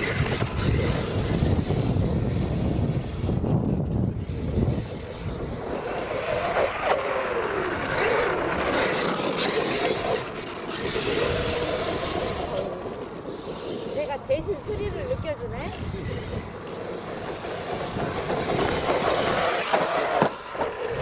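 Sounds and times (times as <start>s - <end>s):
electric rc truck motor whine: 0.0s - 21.0s
tyres churning sand: 0.0s - 21.0s.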